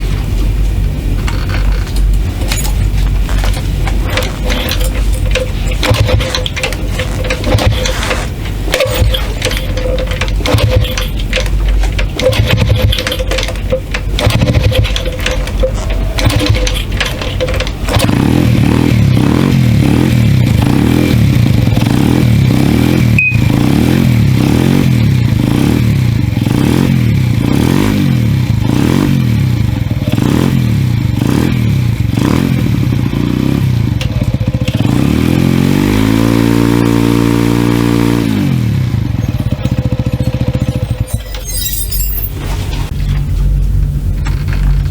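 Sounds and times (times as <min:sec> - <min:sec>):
rough mechanical noise: 0:00.0 - 0:44.9
motorcycle engine revving: 0:00.8 - 0:42.0.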